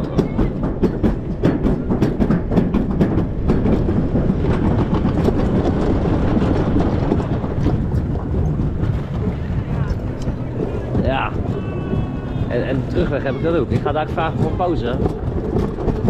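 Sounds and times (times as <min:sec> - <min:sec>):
sled clattering over track joints: 0:00.0 - 0:16.0
sled rumbling down metal track: 0:00.0 - 0:16.0.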